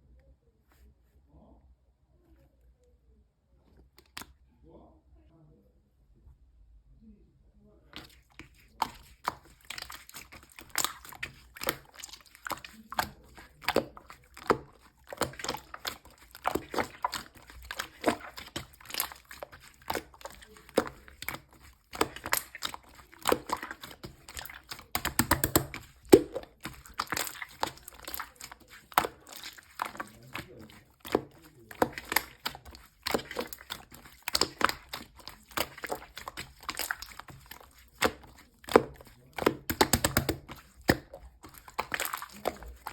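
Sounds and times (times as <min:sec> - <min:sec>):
slime squished by hand: 0:07.9 - 0:42.9.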